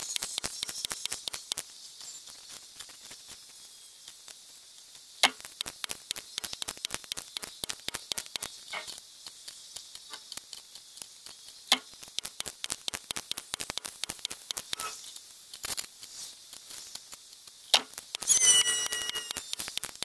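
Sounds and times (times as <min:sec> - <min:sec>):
fast crackle of clicks: 0:00.0 - 0:20.0.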